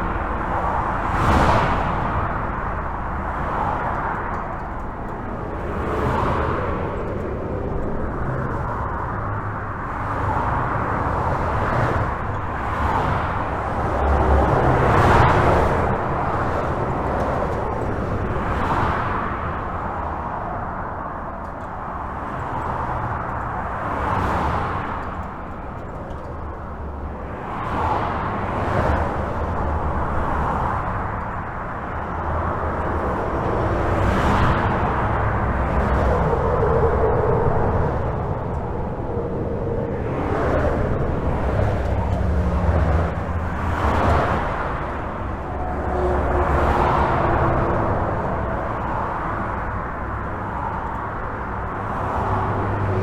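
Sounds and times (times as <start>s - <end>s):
highway traffic rushing: 0.0s - 53.0s
vehicles passing: 0.0s - 53.0s.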